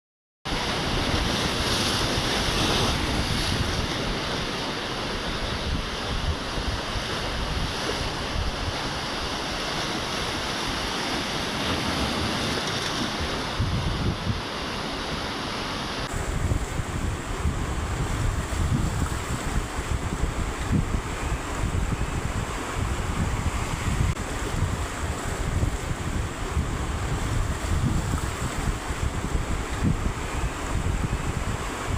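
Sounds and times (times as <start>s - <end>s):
wind buffeting microphone: 0.5s - 14.7s, 16.0s - 31.9s
surf breaking on beach: 0.5s - 31.9s.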